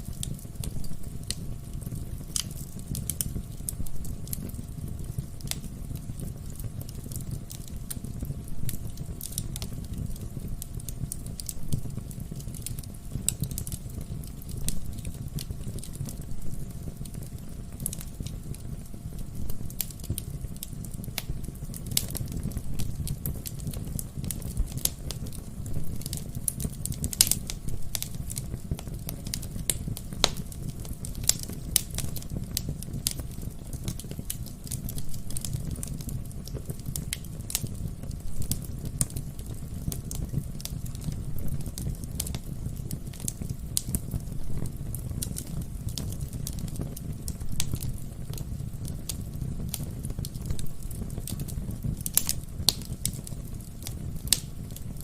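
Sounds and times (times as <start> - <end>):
low rumble of flame: 0.0 - 55.0
wood fire crackling: 0.0 - 55.0.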